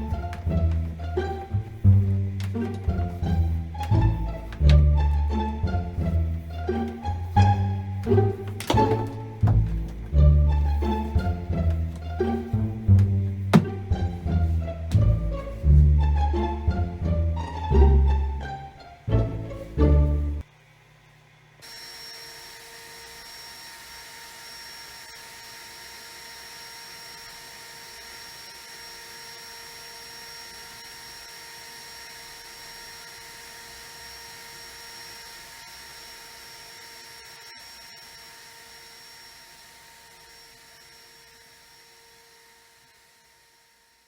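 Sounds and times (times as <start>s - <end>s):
vacuum cleaner running: 0.0s - 15.6s, 21.6s - 44.0s.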